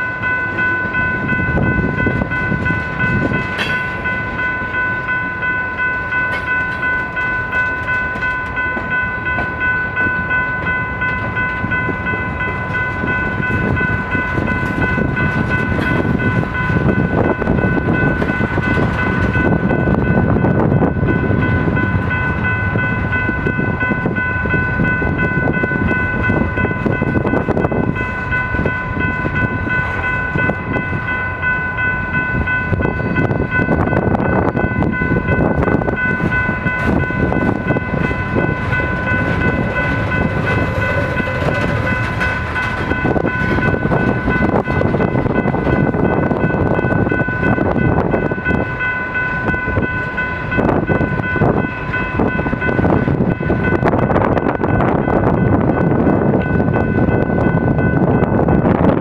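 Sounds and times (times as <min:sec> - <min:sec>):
freight train wheels rumbling: 0:00.0 - 0:59.0
high ringing tone: 0:00.0 - 0:59.0
wheels clicking on rails: 0:00.0 - 0:59.0.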